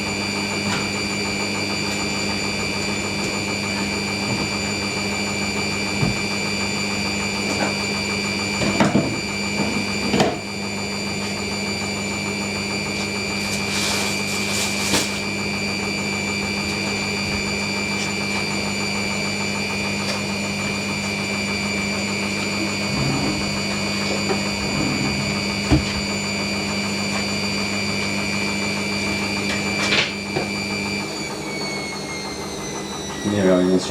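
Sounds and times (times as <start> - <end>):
washing machine motor whine: 0.0 - 33.9.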